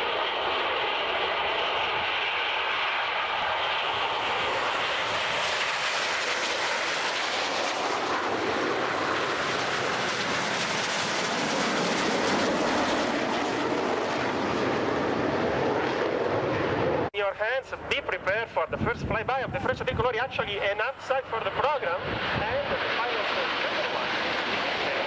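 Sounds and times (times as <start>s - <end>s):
jets flying over: 0.0s - 25.0s.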